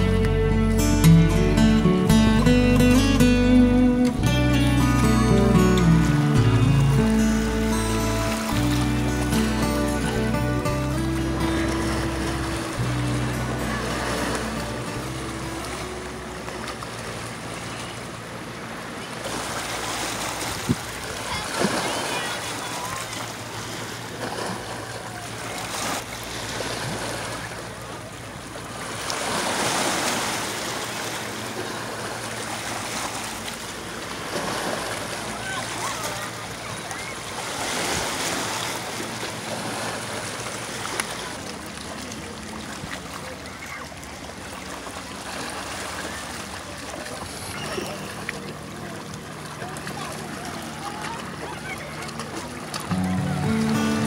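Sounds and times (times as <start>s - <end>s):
small waves lapping over rocks: 6.8s - 54.0s.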